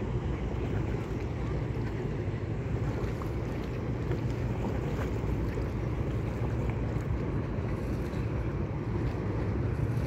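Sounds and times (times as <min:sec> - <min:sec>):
boat engine rumbling: 0:00.0 - 0:10.0
wake water: 0:00.0 - 0:10.0.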